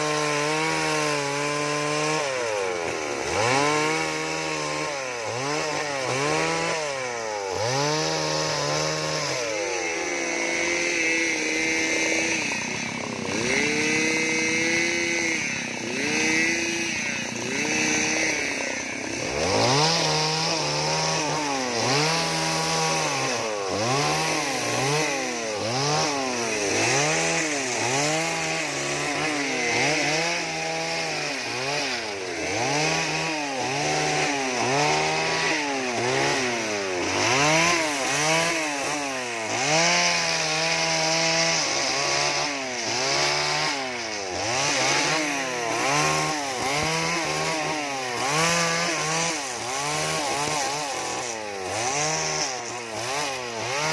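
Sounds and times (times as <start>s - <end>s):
chainsaw revving while carving wood: 0.0s - 53.9s.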